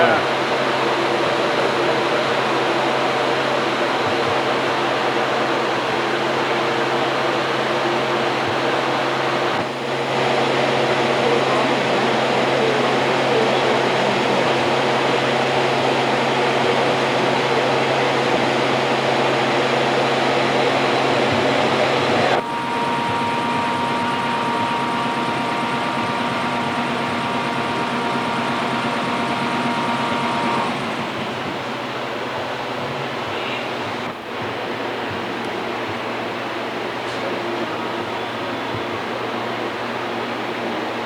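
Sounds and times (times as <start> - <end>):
machine running: 0.0 - 34.4
thin steady whine: 0.0 - 41.0.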